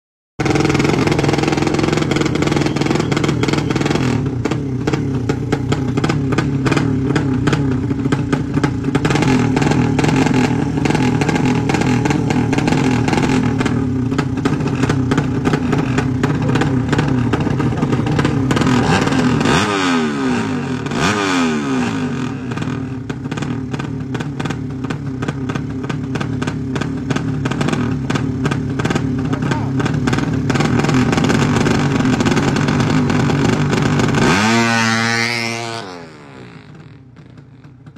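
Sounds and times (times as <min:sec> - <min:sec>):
racing motorcycles revving: 0:00.4 - 0:37.9.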